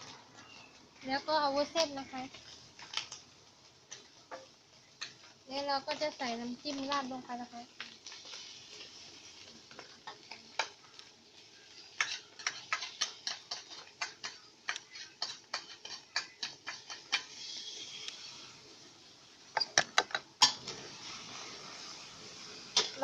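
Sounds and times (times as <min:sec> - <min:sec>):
faint sizzle of frying food: 0:00.0 - 0:23.0.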